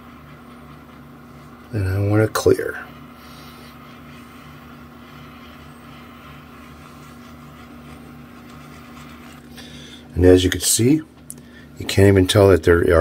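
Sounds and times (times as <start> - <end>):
butane torch hissing: 0.0 - 11.8
low hum: 0.0 - 11.9.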